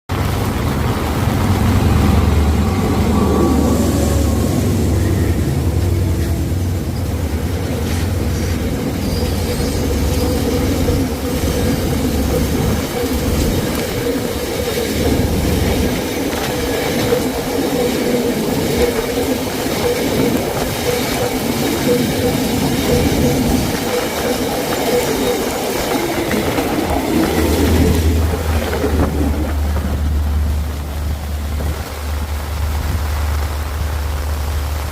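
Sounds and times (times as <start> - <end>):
train engine rumble: 0.1 - 34.9
train wheels whining: 1.1 - 30.8.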